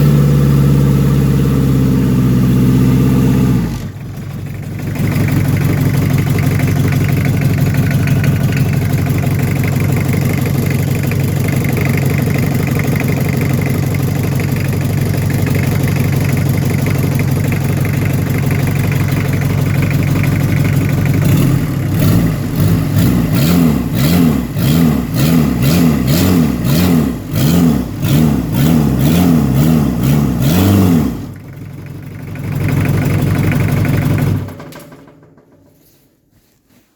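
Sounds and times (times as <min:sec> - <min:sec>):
diesel engine idling and revving: 0:00.0 - 0:34.8.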